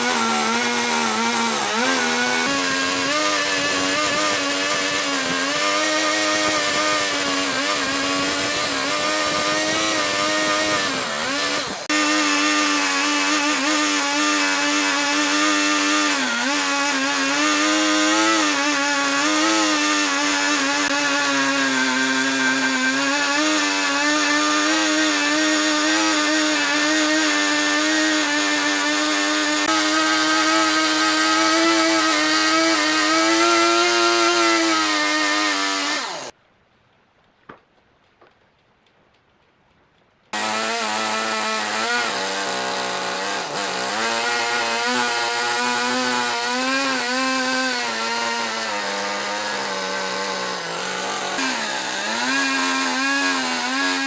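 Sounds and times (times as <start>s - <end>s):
chainsaw cutting log: 0.0s - 36.4s, 40.3s - 54.0s.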